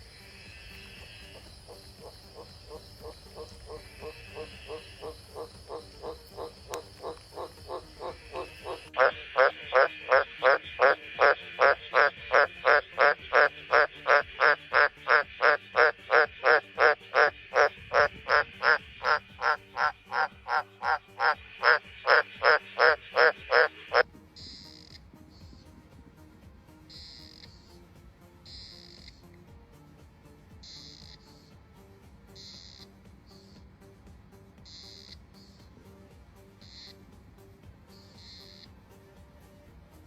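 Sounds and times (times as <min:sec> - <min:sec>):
frog croaking: 0:00.0 - 0:25.7, 0:26.8 - 0:29.5, 0:30.6 - 0:31.5, 0:32.3 - 0:33.7, 0:34.6 - 0:35.7, 0:36.5 - 0:37.1, 0:38.0 - 0:38.8.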